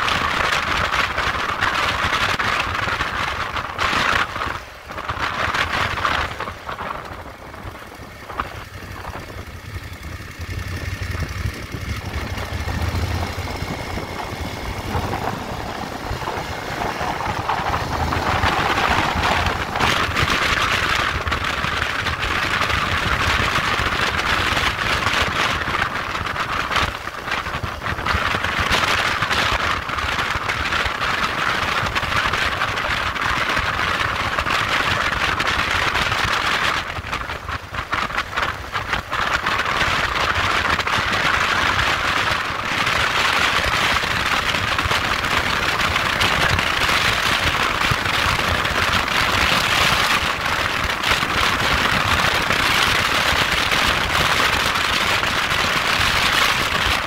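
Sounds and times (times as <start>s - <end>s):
engine and road rumble: 0.0s - 57.0s
wind buffeting microphone: 0.0s - 57.0s.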